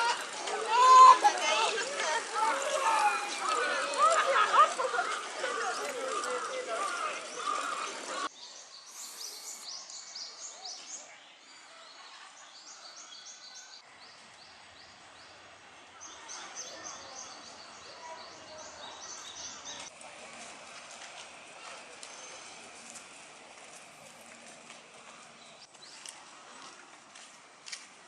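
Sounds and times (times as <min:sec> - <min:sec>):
faint outdoor background noise: 0:00.0 - 0:28.0
songbirds chirping: 0:00.1 - 0:20.4, 0:21.3 - 0:27.2.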